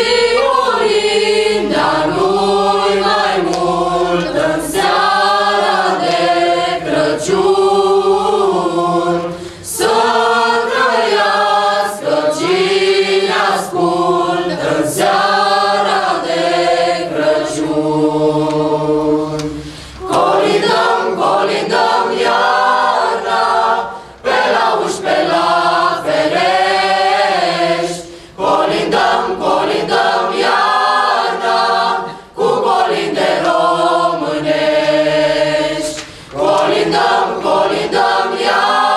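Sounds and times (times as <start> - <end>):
youth choir singing a cappella: 0.0 - 38.9.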